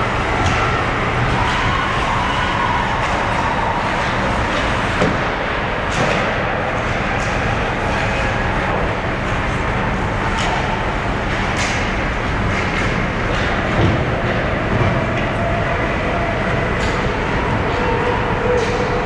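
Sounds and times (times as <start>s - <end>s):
hockey sticks and puck clacking: 0.2s - 19.0s.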